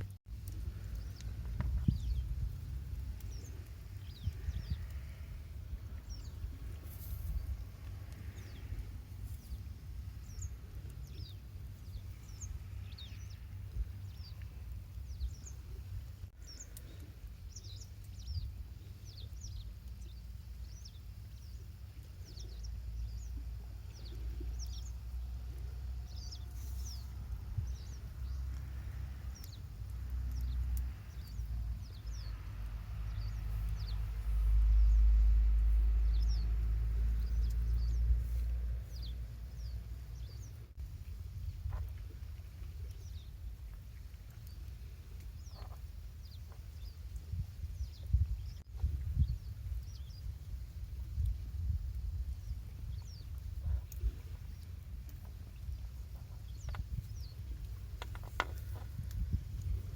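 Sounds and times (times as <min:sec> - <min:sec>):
low outdoor rumble: 0:00.0 - 0:59.9
small birds chirping: 0:00.0 - 0:59.9.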